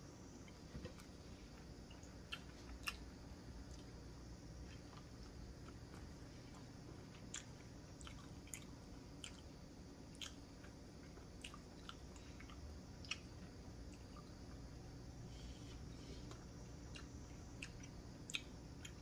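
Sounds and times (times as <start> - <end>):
low room hum: 0.0 - 19.0
faint chewing: 0.4 - 4.0, 4.6 - 14.7, 15.3 - 19.0.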